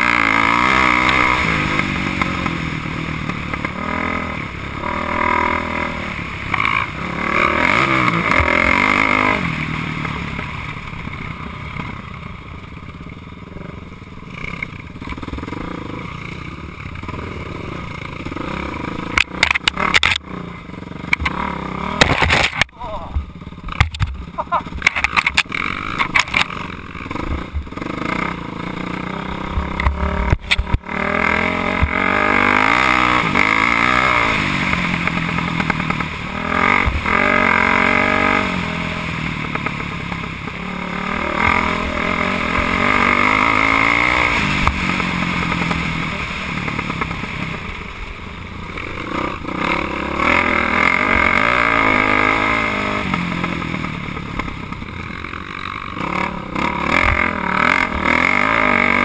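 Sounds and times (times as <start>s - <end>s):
dirt bike engine revving: 0.0s - 12.6s, 13.4s - 59.0s.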